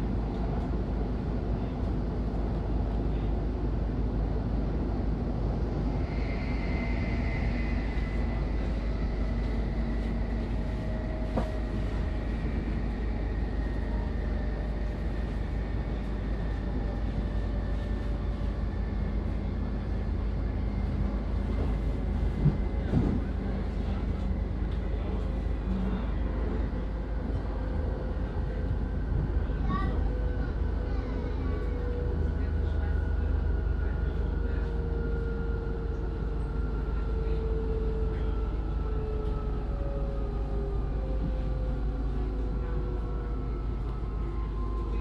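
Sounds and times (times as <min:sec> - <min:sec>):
train running rumble: 0:00.0 - 0:45.0.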